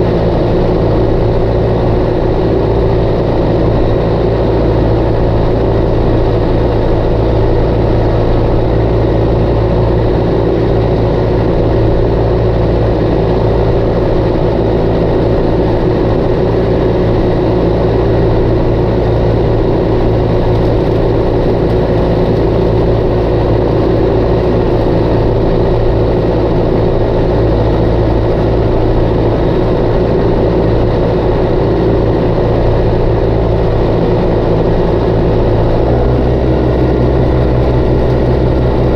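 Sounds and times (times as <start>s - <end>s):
tractor engine droning under load: 0.0s - 38.9s.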